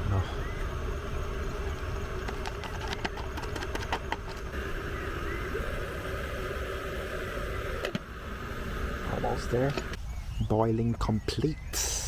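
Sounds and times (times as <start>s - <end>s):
stove burner running: 0.0s - 10.0s
water coming to the boil: 0.0s - 10.0s.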